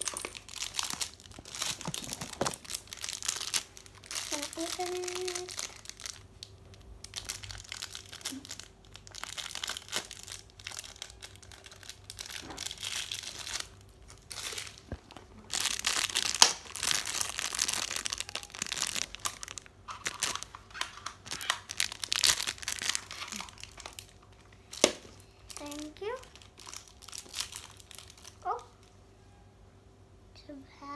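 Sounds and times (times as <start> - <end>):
plastic wrapper crinkling: 0.0 - 29.0.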